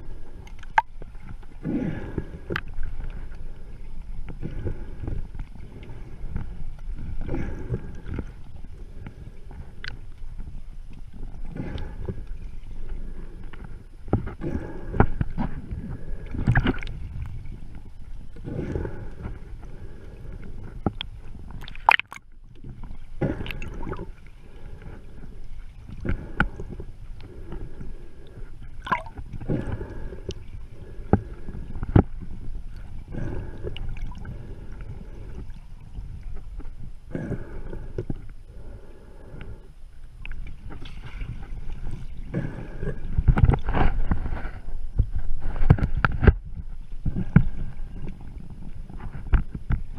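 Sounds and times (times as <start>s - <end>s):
underwater seawater sloshing: 0.0s - 39.0s, 40.0s - 49.9s.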